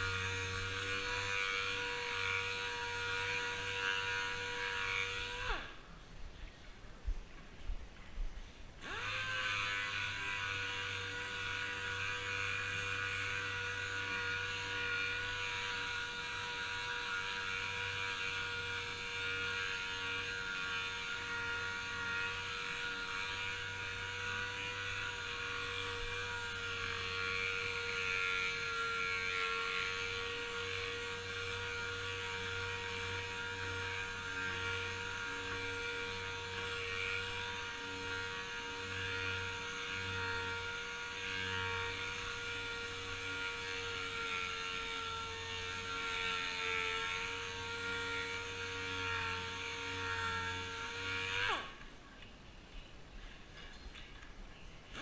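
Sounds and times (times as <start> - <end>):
sander pad sanding metal: 0.0 - 5.8, 8.8 - 51.8
pneumatic sander whine: 0.0 - 6.0, 8.8 - 52.0.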